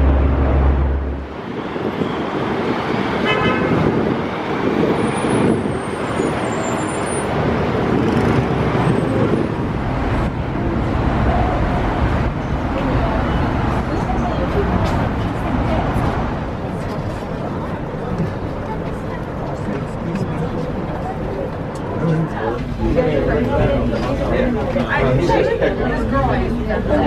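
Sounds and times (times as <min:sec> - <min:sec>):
cable car rumbling: 0:00.0 - 0:27.0.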